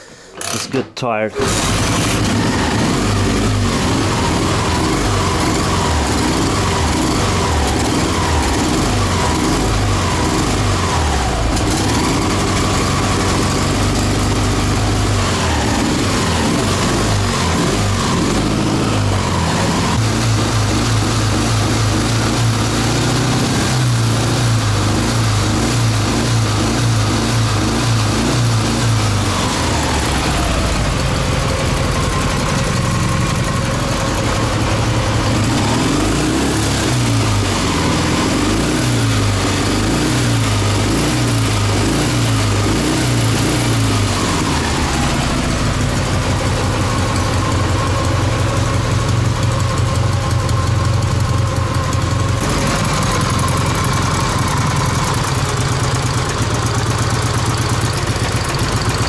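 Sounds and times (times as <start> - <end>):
motorcycle engine revving: 1.4 - 59.0.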